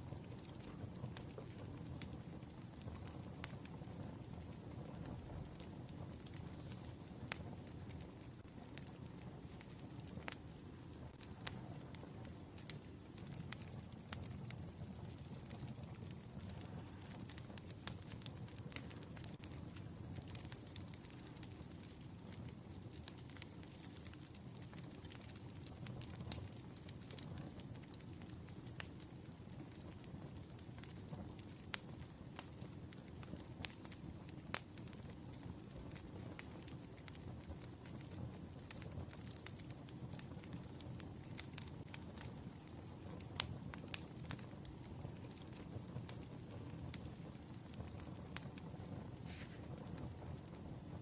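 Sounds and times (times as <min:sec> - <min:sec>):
firewood burning and crackling: 0:00.0 - 0:51.0.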